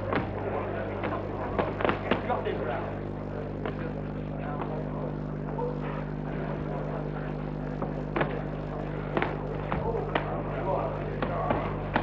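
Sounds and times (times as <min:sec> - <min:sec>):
crowd murmur: 0:00.0 - 0:12.0
low electrical hum: 0:00.0 - 0:12.0.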